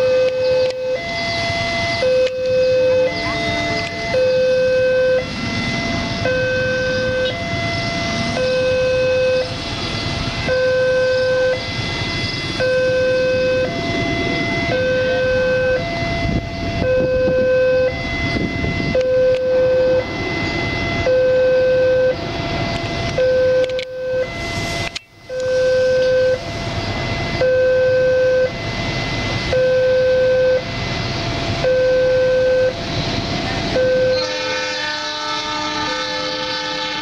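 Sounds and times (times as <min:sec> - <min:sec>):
level crossing two-tone alarm: 0:00.0 - 0:37.0.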